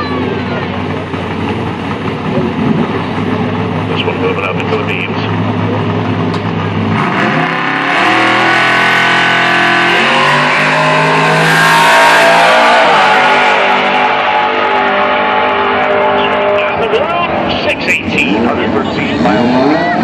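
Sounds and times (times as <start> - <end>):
drag car engine accelerating: 0.0 - 20.0.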